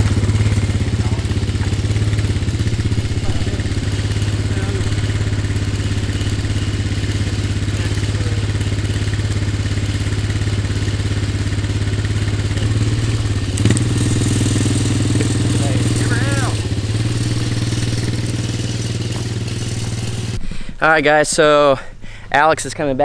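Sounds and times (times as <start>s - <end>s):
atv engine idling: 0.0s - 20.5s.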